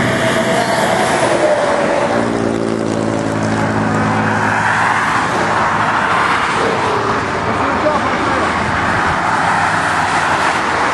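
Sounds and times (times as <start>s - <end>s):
road and tyre noise: 0.0s - 10.9s
vehicle engine hum: 0.0s - 10.9s.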